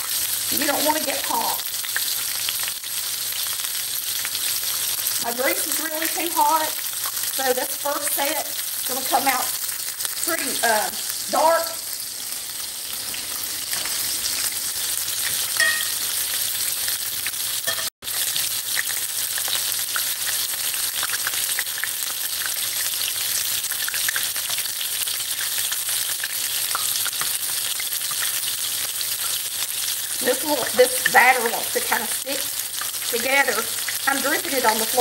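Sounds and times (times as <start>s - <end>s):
onion rings deep-frying: 0.0s - 35.0s.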